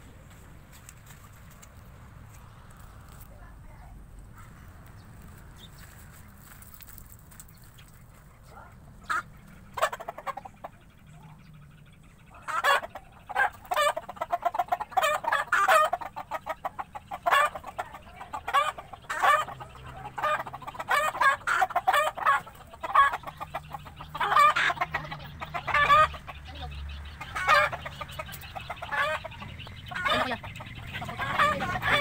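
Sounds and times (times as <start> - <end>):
chickens clucking: 0.0 - 32.0.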